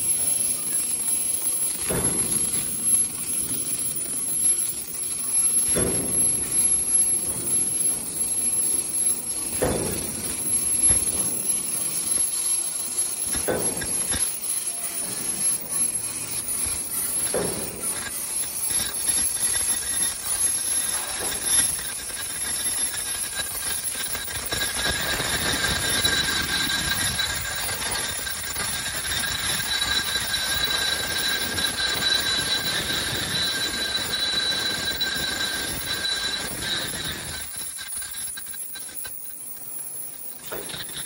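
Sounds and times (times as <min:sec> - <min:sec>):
high-pitched machine whine: 0:00.0 - 0:41.0
machine clattering and hissing: 0:00.0 - 0:41.0.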